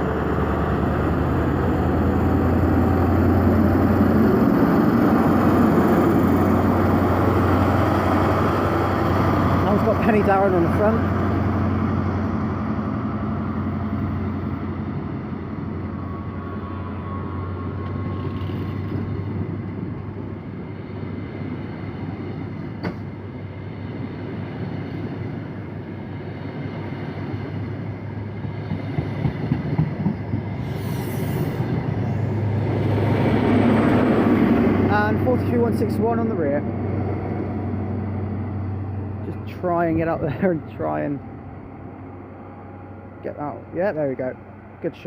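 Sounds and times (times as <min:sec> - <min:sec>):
diesel engine hum: 0:00.0 - 0:45.0
train coaches rumbling: 0:00.0 - 0:45.0.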